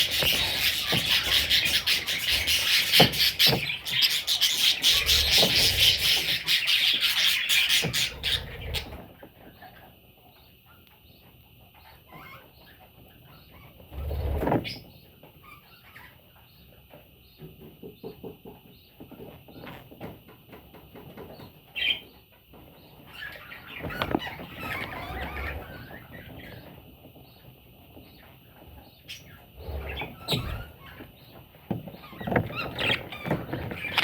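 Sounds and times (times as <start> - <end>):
budgerigars chirping and chattering: 0.0 - 19.0, 21.1 - 34.0.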